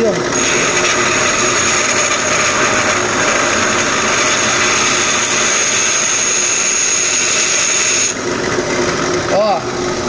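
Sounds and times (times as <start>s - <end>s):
drill press cutting metal: 0.0s - 8.3s.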